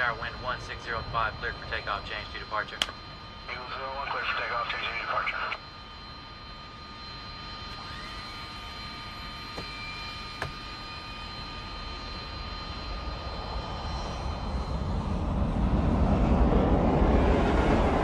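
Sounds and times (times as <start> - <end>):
jet engine taking off: 0.0 - 18.0.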